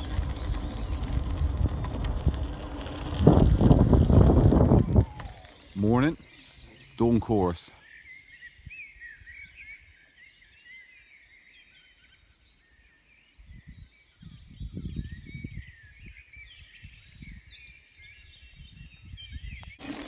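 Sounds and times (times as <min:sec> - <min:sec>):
songbirds singing: 0:03.8 - 0:20.0.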